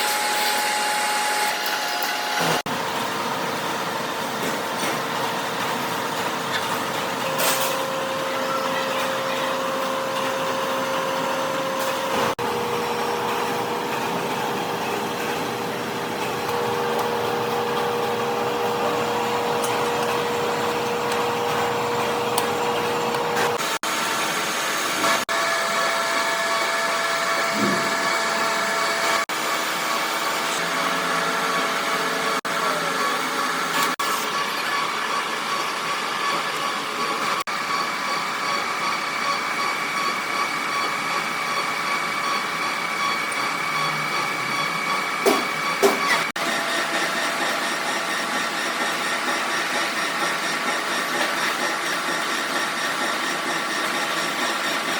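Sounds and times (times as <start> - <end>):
workshop machinery droning hum: 0.0 - 54.9.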